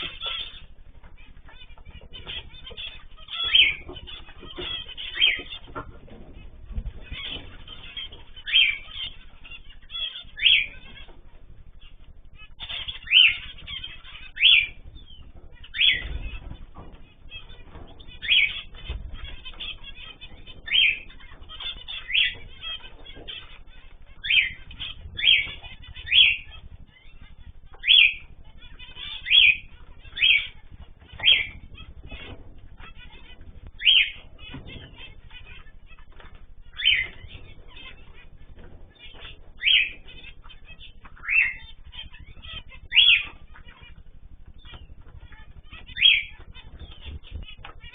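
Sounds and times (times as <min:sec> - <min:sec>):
cage bird sweeping calls: 0:00.0 - 0:11.1, 0:11.8 - 0:44.0, 0:44.6 - 0:47.9
birds chattering: 0:00.0 - 0:47.9.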